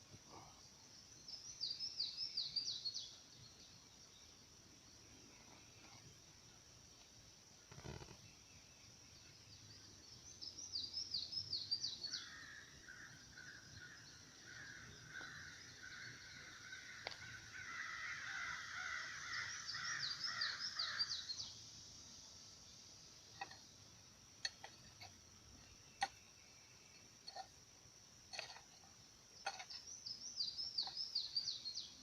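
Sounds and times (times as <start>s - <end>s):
high insect hum: 0.0s - 32.0s.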